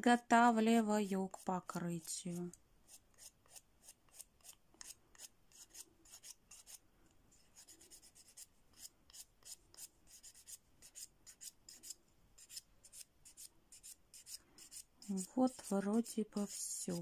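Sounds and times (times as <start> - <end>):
nail file rubbing fingernail: 1.0 - 6.8, 7.4 - 17.0.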